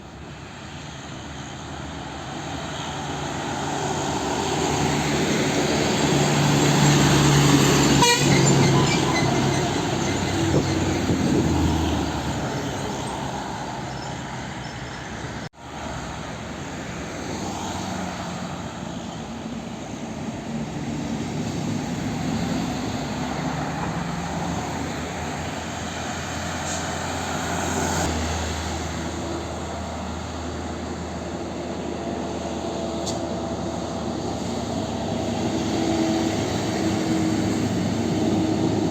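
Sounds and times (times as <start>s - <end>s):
diesel trucks passing: 0.0s - 38.9s
road traffic: 0.0s - 38.9s.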